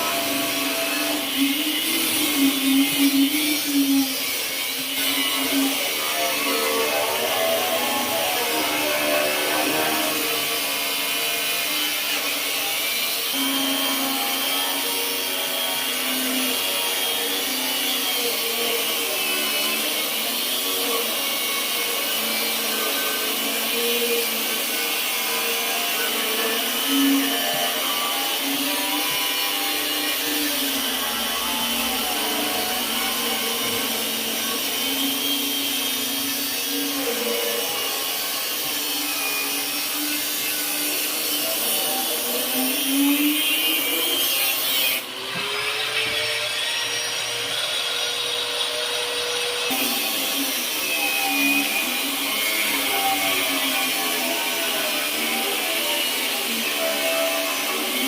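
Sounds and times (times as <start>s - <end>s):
angle grinder running: 0.0s - 58.0s.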